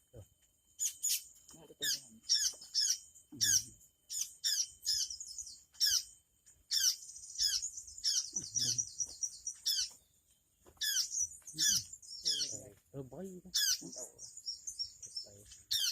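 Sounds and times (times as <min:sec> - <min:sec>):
birds calling sharp chirps: 0:00.0 - 0:15.9.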